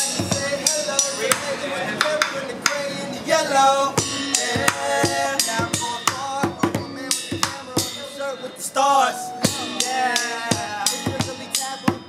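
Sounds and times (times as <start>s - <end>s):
hip-hop beat: 0.0s - 12.0s.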